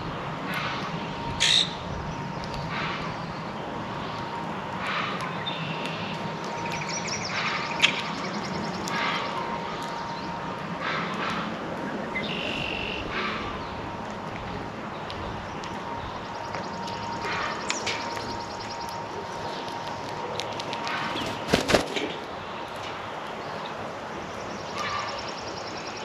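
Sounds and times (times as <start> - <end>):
faint steady hum: 0.0 - 26.0
songbirds chirping: 0.2 - 26.0.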